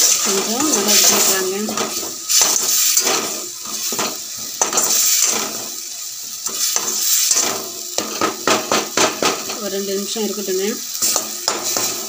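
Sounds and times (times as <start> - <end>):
metal spoon scraping a pan: 0.0 - 9.7, 10.9 - 12.0
masala sizzling in a pan: 0.0 - 12.0.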